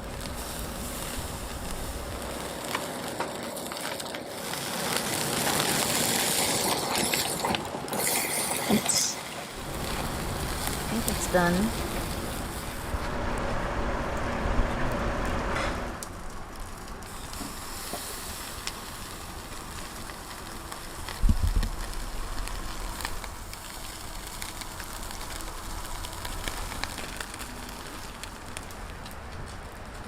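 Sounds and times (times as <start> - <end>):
fish sizzling on a grill: 0.0 - 13.1, 16.0 - 30.0.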